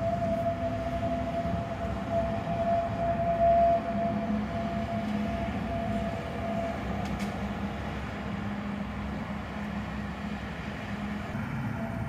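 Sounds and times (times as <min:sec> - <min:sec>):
tram wheels rumbling: 0:00.0 - 0:12.0.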